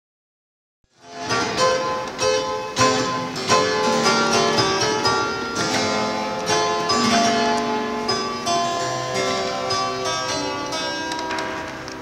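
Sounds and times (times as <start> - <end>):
harpsichord playing: 1.0 - 12.0.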